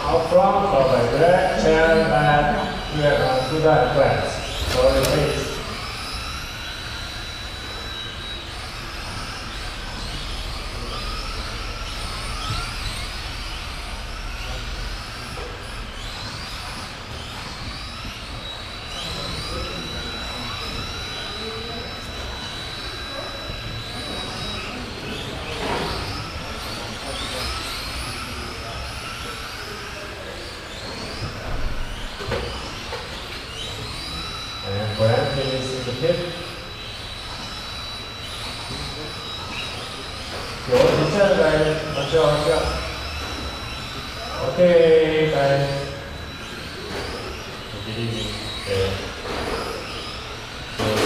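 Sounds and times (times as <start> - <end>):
rc truck motors whining: 0.0 - 51.0.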